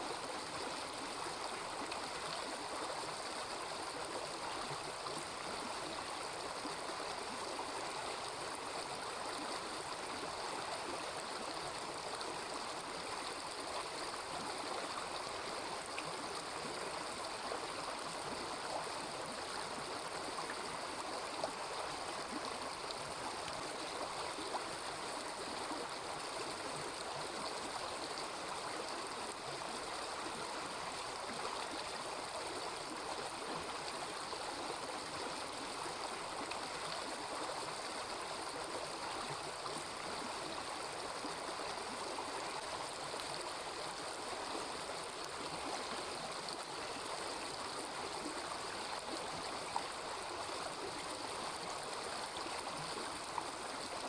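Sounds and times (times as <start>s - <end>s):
river babbling and gurgling: 0.0s - 54.0s.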